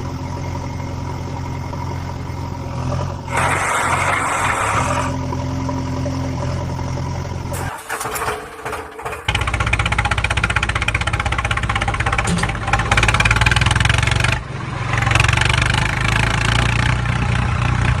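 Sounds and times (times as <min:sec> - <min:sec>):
diesel engine chugging: 0:00.0 - 0:18.0.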